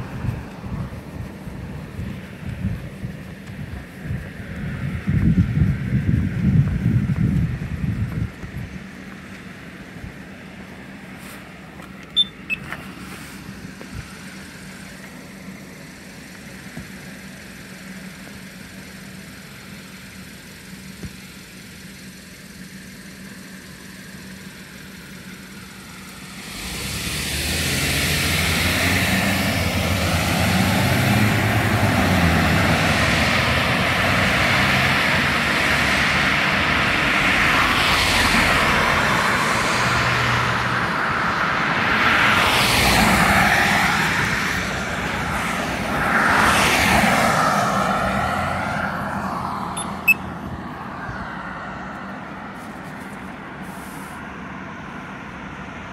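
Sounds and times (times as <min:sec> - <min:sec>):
cars driving past: 0:00.0 - 0:55.9.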